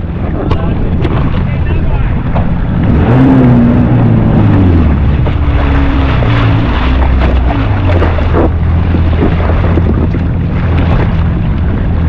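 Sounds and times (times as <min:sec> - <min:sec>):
jet ski engine running: 0:00.0 - 0:12.0.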